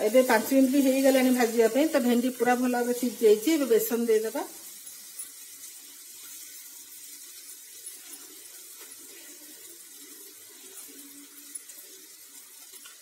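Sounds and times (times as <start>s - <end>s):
oil crackling: 0.0s - 13.0s
vegetables sizzling in oil: 0.0s - 13.0s.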